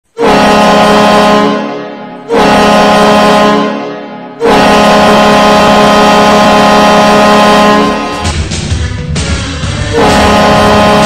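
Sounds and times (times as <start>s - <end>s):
arena goal horn blasts: 0.1s - 8.4s, 9.8s - 11.0s.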